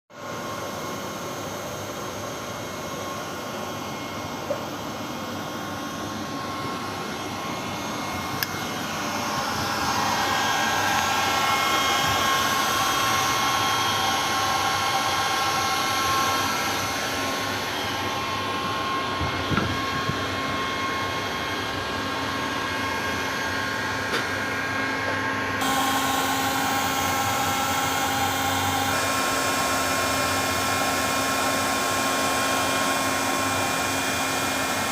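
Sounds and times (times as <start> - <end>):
whirring machinery with whining tones: 0.2 - 34.9.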